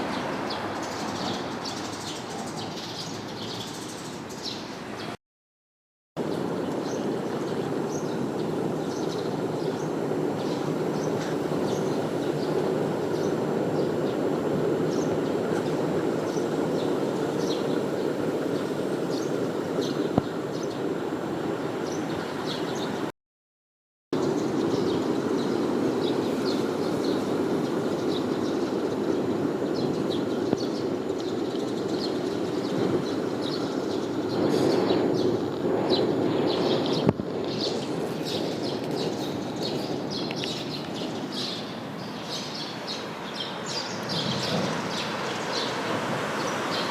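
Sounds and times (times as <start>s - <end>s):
small birds chirping: 0.0s - 5.2s, 6.2s - 23.1s, 24.2s - 46.9s.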